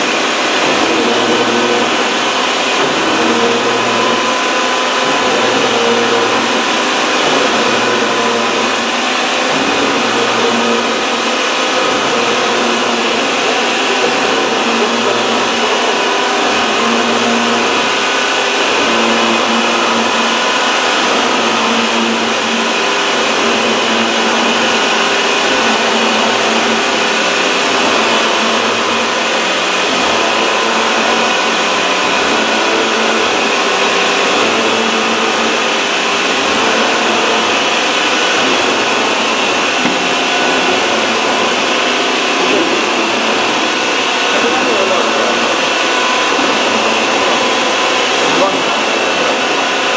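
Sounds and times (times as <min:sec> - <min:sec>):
drilling machine whirring: 0:00.0 - 0:49.9.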